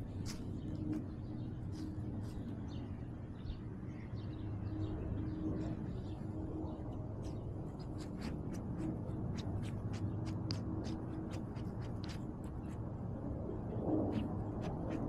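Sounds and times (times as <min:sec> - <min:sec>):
low rustling and rumble: 0:00.0 - 0:15.0.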